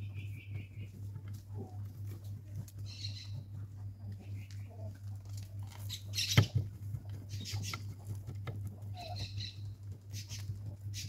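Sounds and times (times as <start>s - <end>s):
gritty soil scratching and clicking: 0.0s - 11.0s
low hum: 0.0s - 11.0s.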